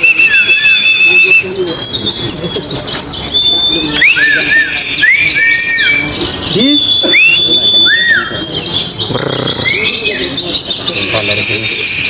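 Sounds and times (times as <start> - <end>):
many small birds twittering: 0.0 - 12.0
whistled bird notes: 0.0 - 12.0.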